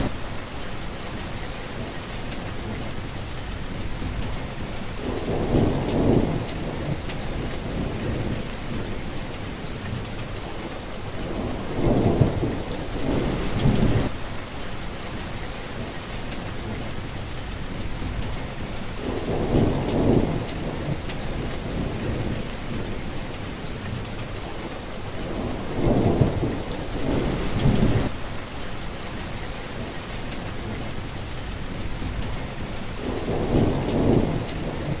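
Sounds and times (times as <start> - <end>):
low rumble of thunder: 0.0 - 14.3, 16.4 - 35.0
steady rain: 0.0 - 35.0.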